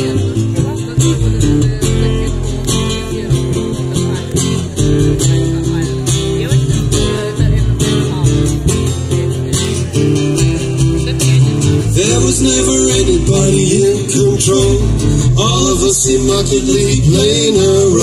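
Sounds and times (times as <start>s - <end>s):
acoustic guitar strummed: 0.0s - 18.0s
deep low accompaniment: 0.0s - 18.0s.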